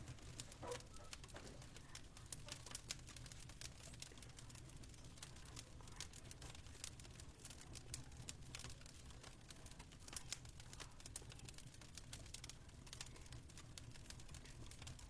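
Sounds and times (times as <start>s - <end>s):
fire crackling and popping: 0.0s - 15.0s
fire low rumble: 0.0s - 15.0s.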